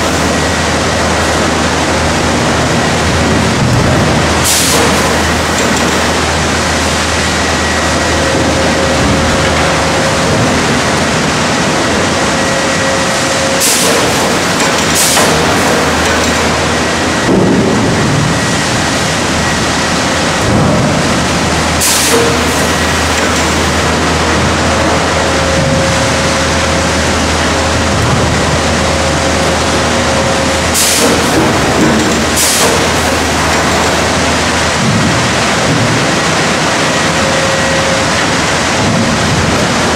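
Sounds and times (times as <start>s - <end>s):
low hum: 0.0s - 14.7s, 15.3s - 39.7s
conveyor chains and rollers: 0.0s - 39.9s.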